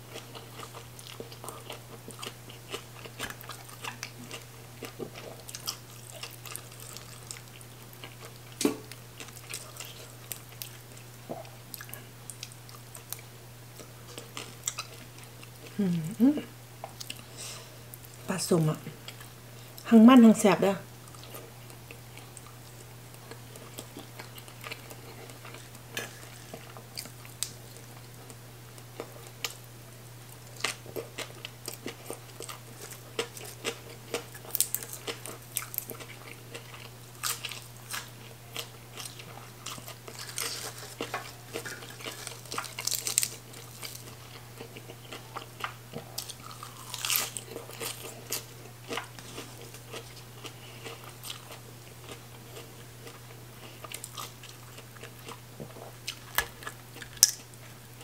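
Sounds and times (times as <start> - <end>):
person chewing crunchy food: 0.1 - 15.7, 16.8 - 17.4, 21.0 - 29.7, 30.3 - 57.8.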